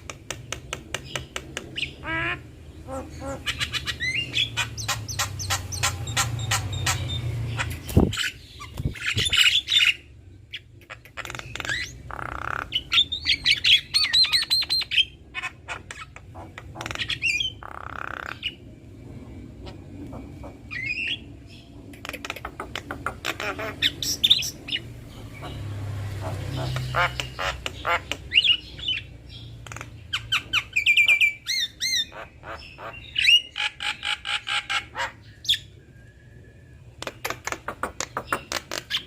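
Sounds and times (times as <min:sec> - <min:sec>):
birds squawking and chattering: 0:00.0 - 0:39.0.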